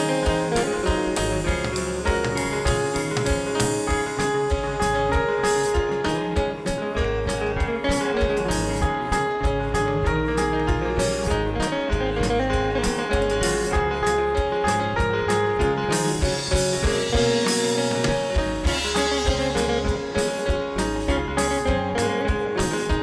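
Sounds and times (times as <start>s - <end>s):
gospel band music: 0.0s - 23.0s.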